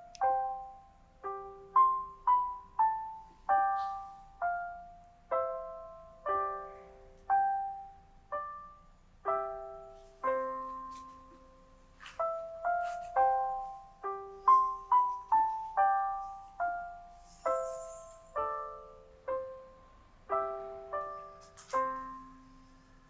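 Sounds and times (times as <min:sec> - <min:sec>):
slow piano music: 0:00.0 - 0:23.0.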